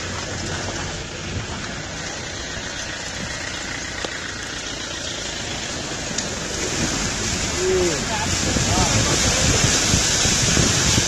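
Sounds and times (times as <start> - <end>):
engine rumble: 0.0 - 11.0
water splashing: 0.0 - 11.0.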